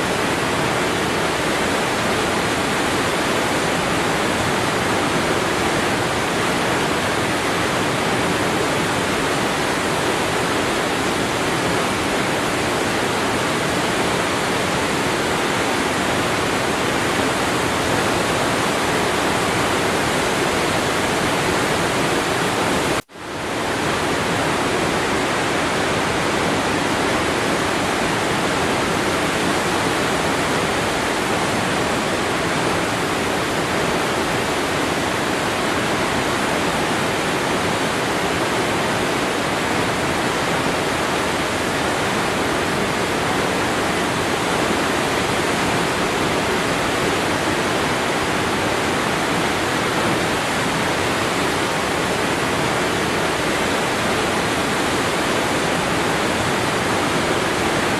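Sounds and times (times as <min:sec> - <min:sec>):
waterfall splashing: 0:00.0 - 0:57.9.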